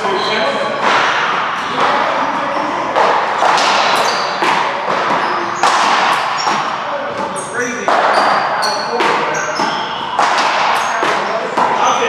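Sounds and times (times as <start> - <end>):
shoes squeaking on floor: 0.0 - 0.8, 1.6 - 12.0
ball struck with echo: 0.8 - 12.0.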